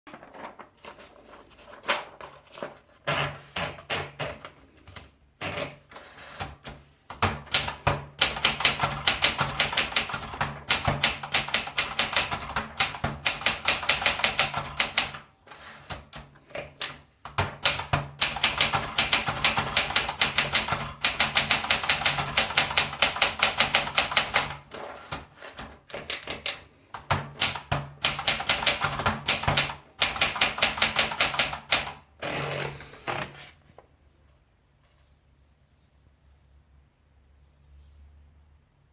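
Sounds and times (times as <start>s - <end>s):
manual typewriter typing: 1.8s - 33.4s.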